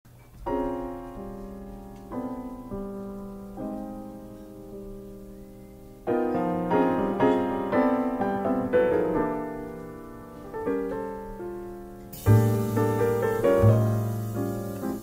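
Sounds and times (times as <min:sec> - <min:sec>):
jazz piano playing: 0:00.1 - 0:15.0.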